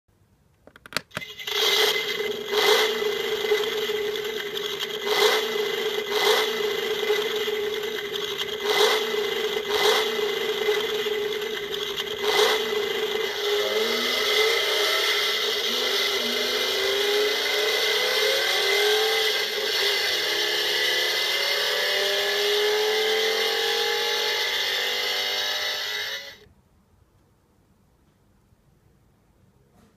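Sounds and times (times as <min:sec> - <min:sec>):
recorded engine revving from speaker: 0:01.4 - 0:26.4.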